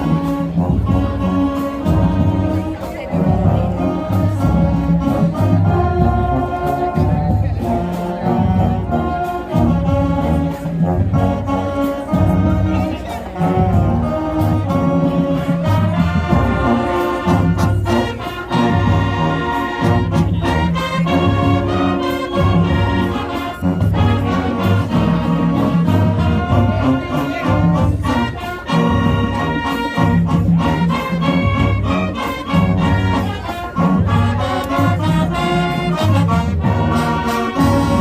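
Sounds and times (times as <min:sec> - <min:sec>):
marching band playing brass: 0:00.0 - 0:38.0.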